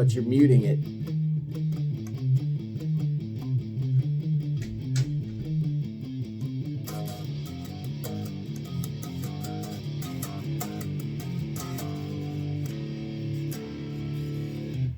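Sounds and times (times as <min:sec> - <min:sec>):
palm-muted guitar strumming: 0:00.0 - 0:14.9.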